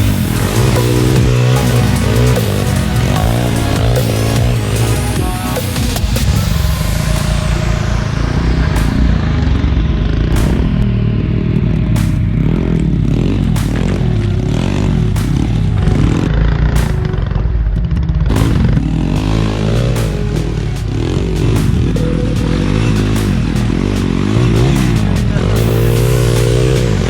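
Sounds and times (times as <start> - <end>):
small motorcycle engine revving: 0.0 - 16.9, 18.3 - 27.0.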